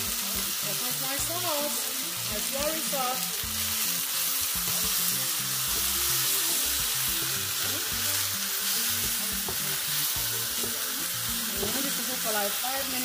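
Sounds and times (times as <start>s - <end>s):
food sizzling in a hot wok: 0.0s - 13.0s.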